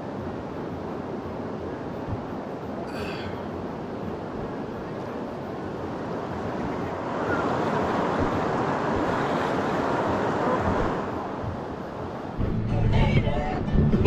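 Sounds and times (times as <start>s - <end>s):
rushing river water: 0.0s - 12.4s.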